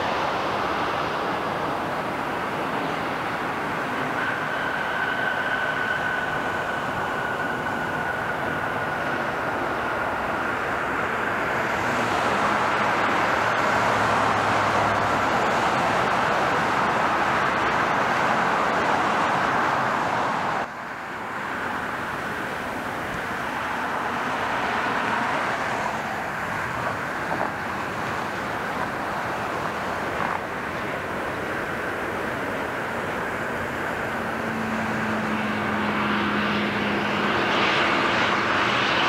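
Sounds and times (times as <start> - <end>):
jet engine roar: 0.0 - 39.0
jet engine whine: 0.0 - 39.0.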